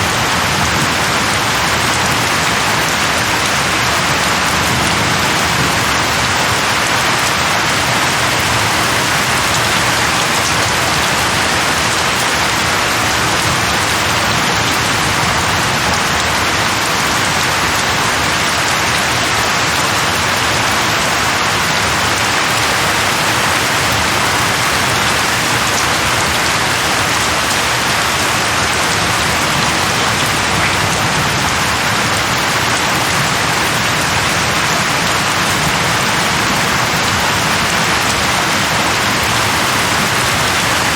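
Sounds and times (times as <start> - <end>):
heavy rain falling on leaves: 0.0 - 40.9.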